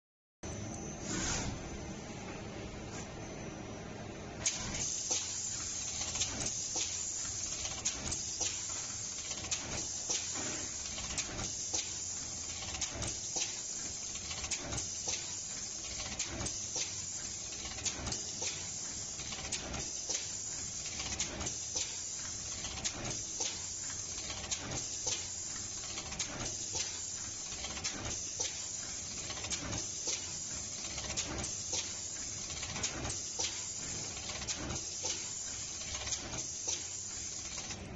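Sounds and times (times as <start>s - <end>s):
machine hissing: 1.0s - 1.6s, 4.4s - 37.8s
sharp machine clicks: 4.4s - 37.9s.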